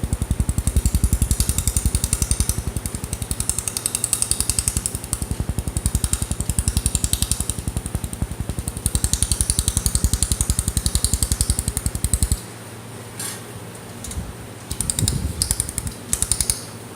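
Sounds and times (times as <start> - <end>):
laser welder pulses: 0.0 - 12.5, 14.7 - 16.7
steady machine hum: 0.0 - 16.9.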